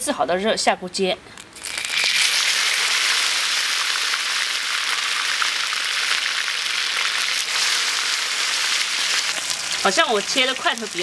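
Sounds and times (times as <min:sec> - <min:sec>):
pork sizzling in hot oil: 0:01.5 - 0:11.0.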